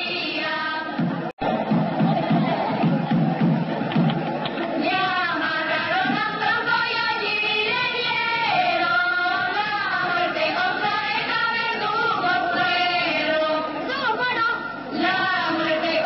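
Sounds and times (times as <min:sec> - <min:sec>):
group of people singing: 0:00.0 - 0:16.0.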